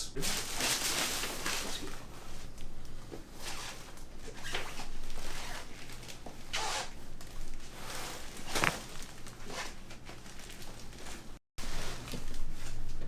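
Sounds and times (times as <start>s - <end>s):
faint steady hum: 0.0s - 13.0s
fabric rustling: 0.2s - 12.8s.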